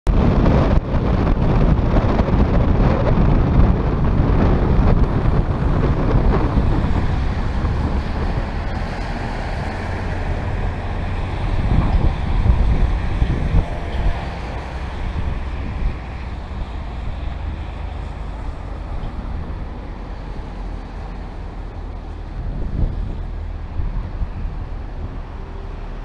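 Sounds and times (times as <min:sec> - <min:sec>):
wind rumbling on microphone: 0:00.1 - 0:26.0
car driving on wet pavement: 0:00.2 - 0:26.0.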